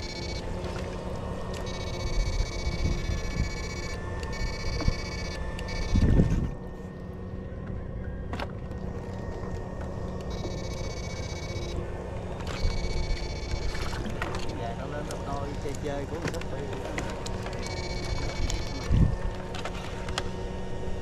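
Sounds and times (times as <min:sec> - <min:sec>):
electrofishing shocker buzzing: 0:00.0 - 0:21.0
steady low hum: 0:00.0 - 0:21.0.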